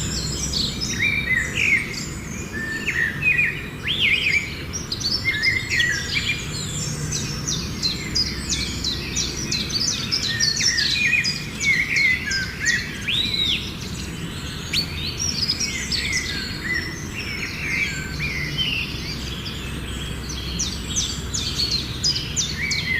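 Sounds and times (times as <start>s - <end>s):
birds chirping and calling: 0.0s - 22.9s.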